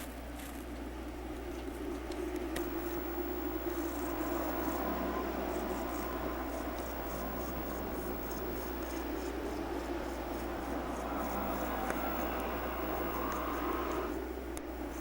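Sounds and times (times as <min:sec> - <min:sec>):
low hum: 0:00.0 - 0:15.0
hiss: 0:00.8 - 0:15.0.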